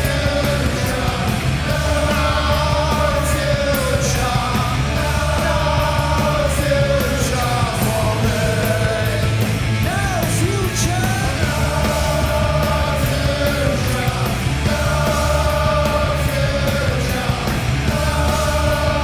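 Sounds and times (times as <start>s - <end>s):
bass guitar: 0.0s - 19.0s
crowd in hall: 0.0s - 19.0s
drums: 0.0s - 19.0s
electric guitars: 0.0s - 19.0s.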